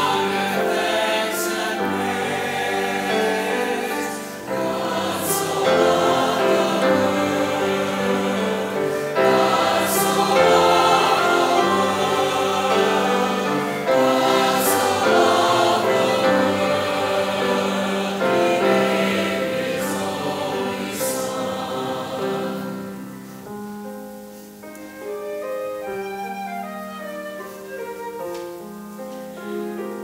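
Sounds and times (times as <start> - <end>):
church choir singing: 0.0 - 24.4.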